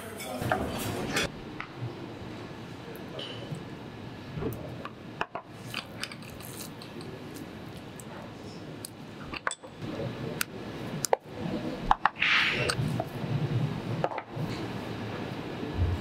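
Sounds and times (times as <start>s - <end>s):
kitchen background noise: 0.0s - 13.2s.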